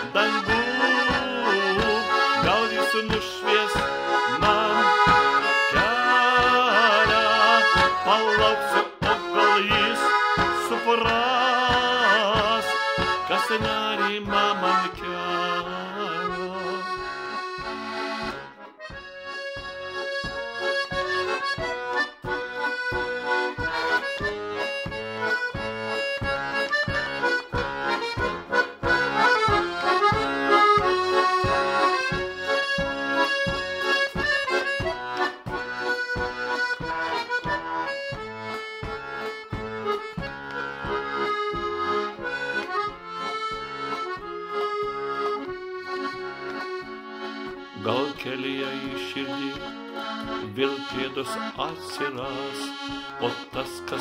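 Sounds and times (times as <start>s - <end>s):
button accordion playing: 0.0s - 54.0s.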